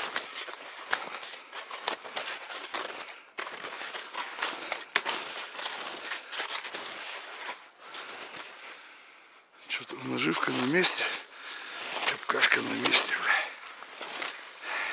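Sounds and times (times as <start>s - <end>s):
snow crunching underfoot: 0.0s - 9.1s, 9.7s - 14.9s
clothing rustling: 0.0s - 9.2s, 10.0s - 14.9s.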